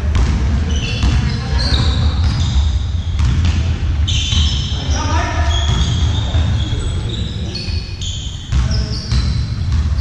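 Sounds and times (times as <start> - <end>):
ball bouncing: 0.0 - 6.6, 8.4 - 10.0
shoes squeaking on court floor: 0.6 - 10.0.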